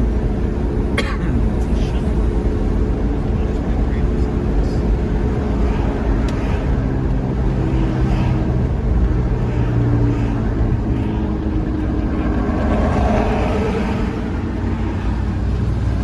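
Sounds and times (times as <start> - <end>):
car engine hum: 0.0 - 16.0
road rumble: 0.0 - 16.0.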